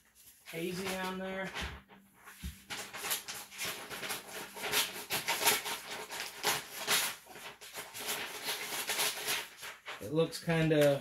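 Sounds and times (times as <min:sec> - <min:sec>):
rustling and scraping materials: 0:00.0 - 0:11.0.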